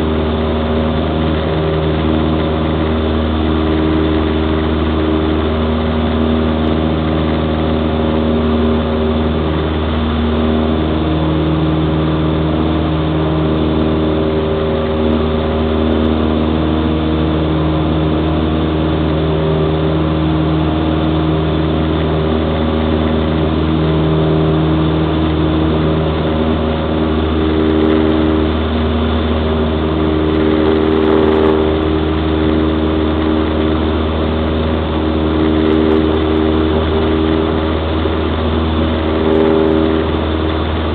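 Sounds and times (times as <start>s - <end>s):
propeller plane engine droning: 0.0s - 40.9s.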